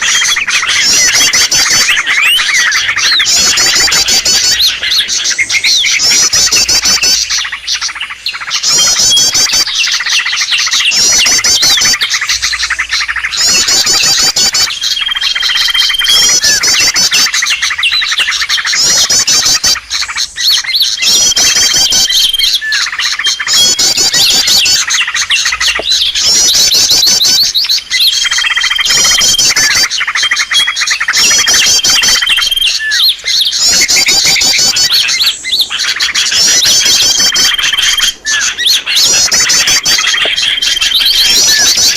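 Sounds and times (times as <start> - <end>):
rapid high bird chirping: 0.0 - 41.9.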